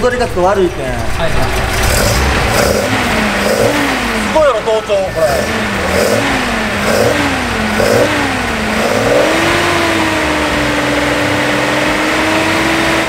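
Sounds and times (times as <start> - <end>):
intake noise: 0.0 - 13.0
car engine revving: 0.2 - 13.0.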